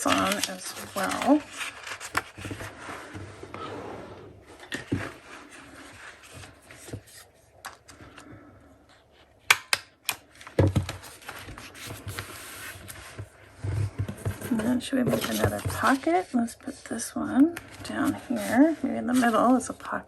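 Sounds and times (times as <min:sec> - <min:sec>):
paper rustling: 0:00.0 - 0:03.6, 0:04.5 - 0:09.4, 0:10.2 - 0:20.0.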